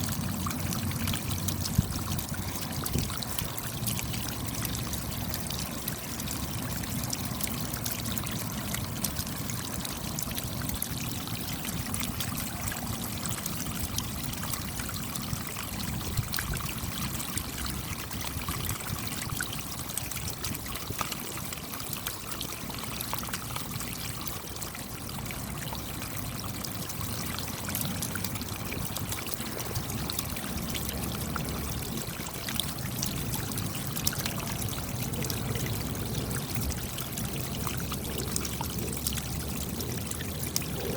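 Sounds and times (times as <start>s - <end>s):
raindrops striking close by: 0.0s - 40.9s.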